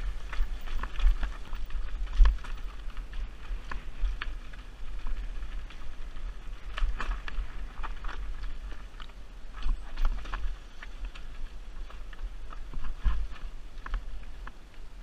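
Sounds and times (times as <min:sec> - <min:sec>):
bike knocking and rattling: 0:00.0 - 0:15.0
steady low rumble: 0:00.0 - 0:15.0
tyres crunching over stones: 0:00.0 - 0:15.0.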